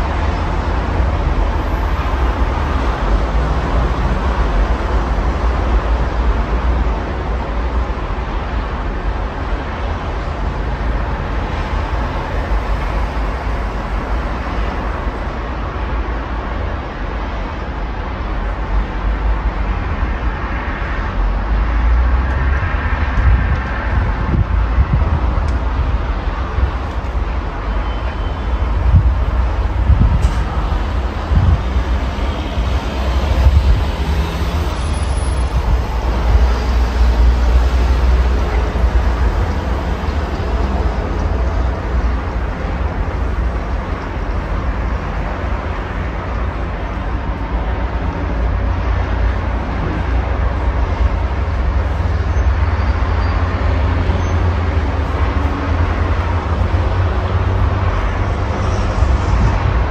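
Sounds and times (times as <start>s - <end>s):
low traffic rumble: 0.0s - 59.9s
road traffic passing: 0.0s - 59.9s.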